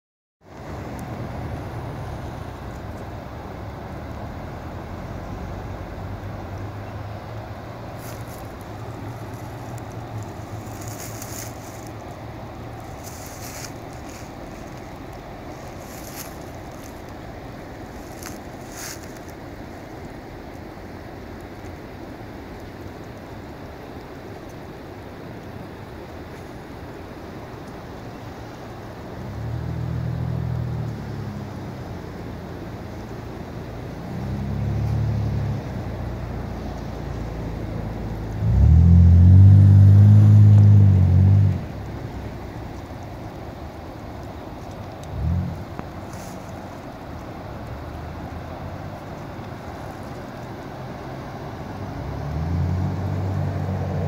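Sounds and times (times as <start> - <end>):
river water rushing: 0.4 - 54.0
hissy rustles: 7.2 - 38.6, 40.0 - 53.5.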